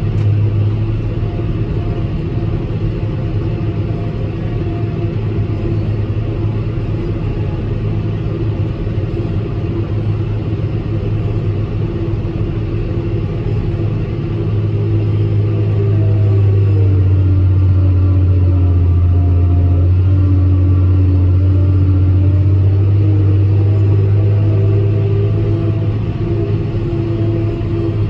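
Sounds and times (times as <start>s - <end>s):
tractor and forage harvester droning: 0.0s - 28.0s.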